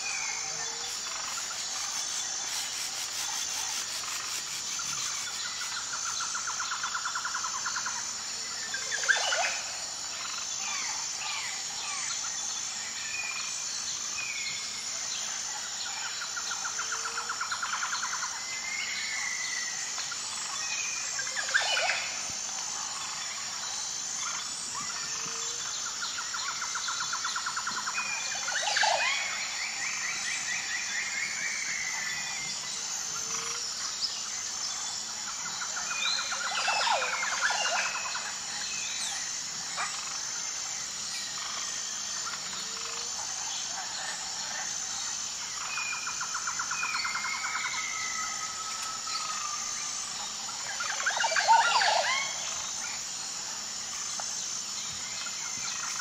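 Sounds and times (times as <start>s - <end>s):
steady high-pitched buzz: 0.0s - 56.0s.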